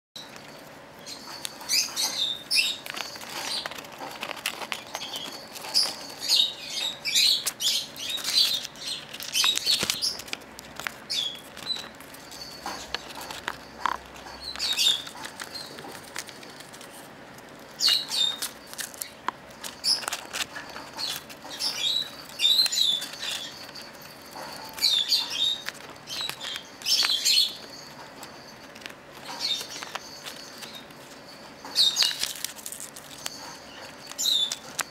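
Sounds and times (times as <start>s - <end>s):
bird chirping: 1.0s - 10.4s, 11.0s - 16.7s, 17.6s - 34.9s
paper rustling: 2.8s - 6.2s, 7.4s - 34.9s.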